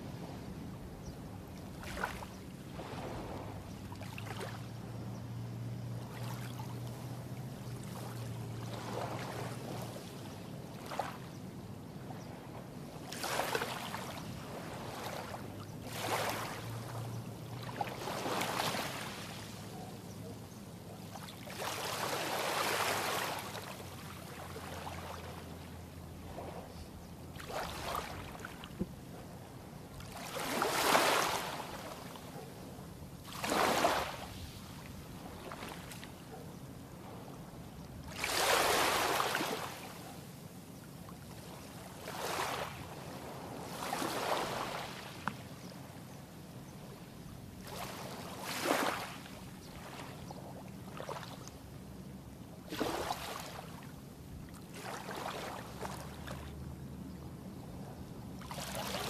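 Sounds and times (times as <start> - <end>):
small waves washing on sand: 0.0 - 11.4, 12.3 - 19.8, 20.8 - 56.8, 58.3 - 59.0.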